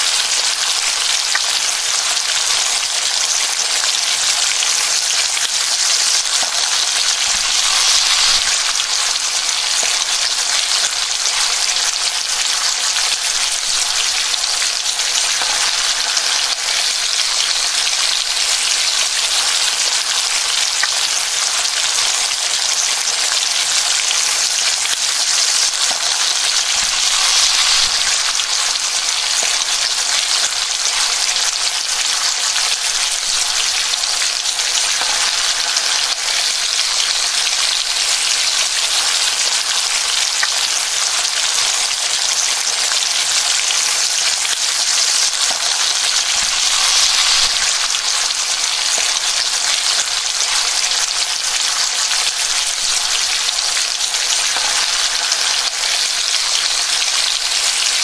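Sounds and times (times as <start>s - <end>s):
food sizzling in frying pan: 0.0s - 58.0s.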